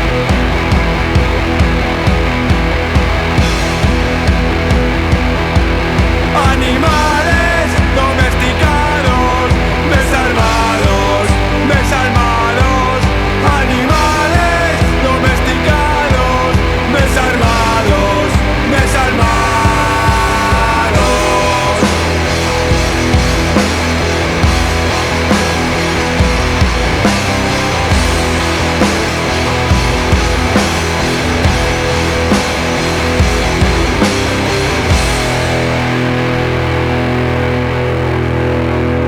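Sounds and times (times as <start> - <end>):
punk rock band playing: 0.0 - 39.0.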